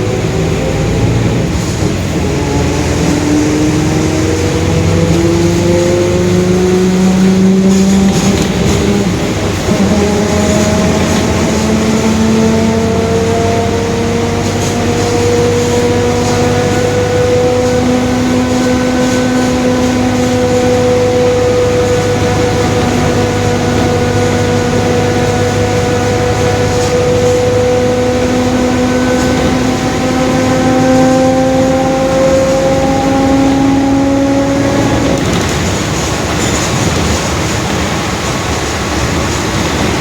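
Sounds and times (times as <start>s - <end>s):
bus engine hum: 0.0s - 40.0s.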